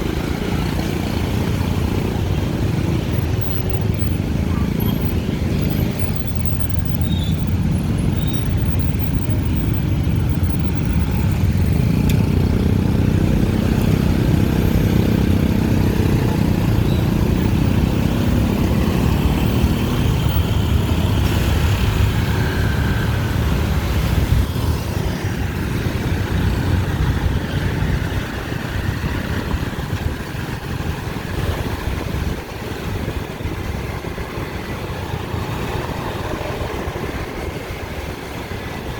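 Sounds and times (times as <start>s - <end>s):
dense traffic rumble: 0.0s - 38.9s.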